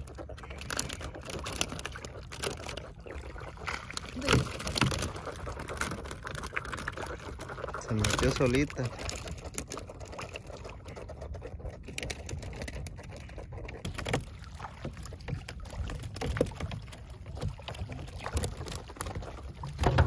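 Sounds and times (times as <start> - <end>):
small splashes and knocks: 0.0 - 20.0
water lapping against boat: 0.0 - 20.0.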